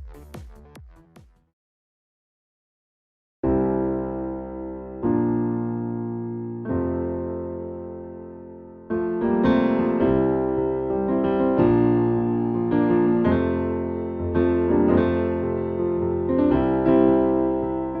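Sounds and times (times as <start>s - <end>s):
piano chords: 3.4s - 18.0s.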